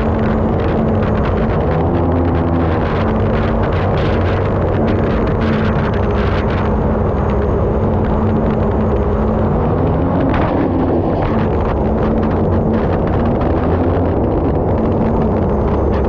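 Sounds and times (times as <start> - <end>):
turbine engine drone: 0.0 - 16.0
water and wind rushing: 0.0 - 16.0.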